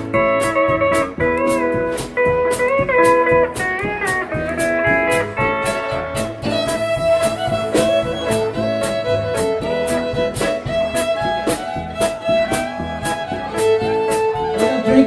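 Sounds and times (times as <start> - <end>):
bass: 0.0 - 15.0
drums: 0.0 - 15.0
fiddle: 0.0 - 15.0
guitar: 0.0 - 15.0.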